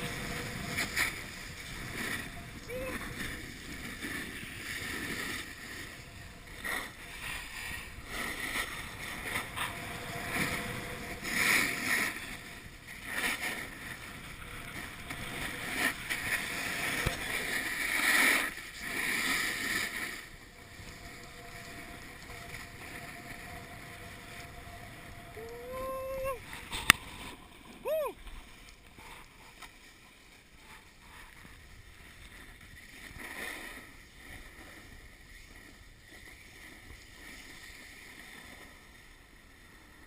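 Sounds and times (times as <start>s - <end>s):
snowboard scraping over snow: 0.0s - 40.0s.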